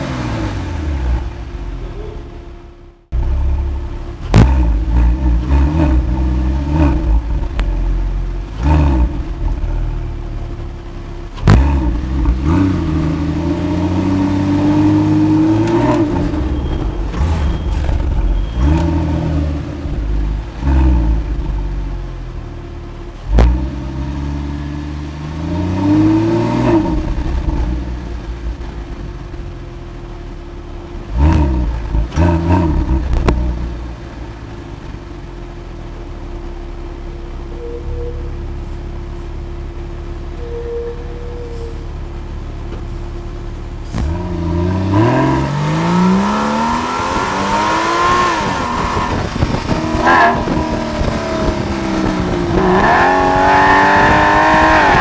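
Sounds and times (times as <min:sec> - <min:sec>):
car engine revving: 0:00.0 - 0:41.3, 0:41.9 - 0:55.0.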